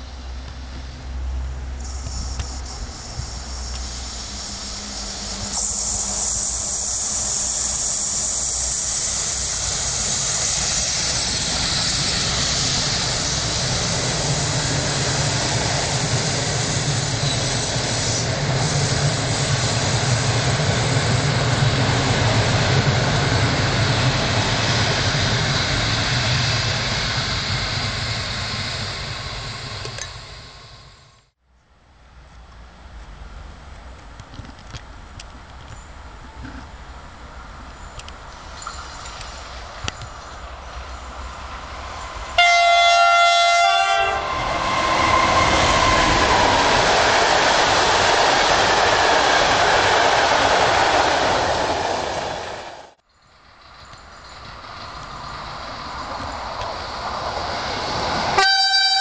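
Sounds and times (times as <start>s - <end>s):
train passing at speed: 0.0s - 31.4s, 32.6s - 59.0s.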